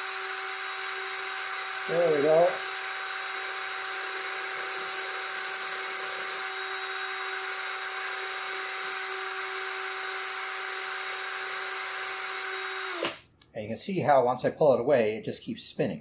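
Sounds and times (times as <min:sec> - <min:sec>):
cordless drill whining: 0:00.0 - 0:13.4.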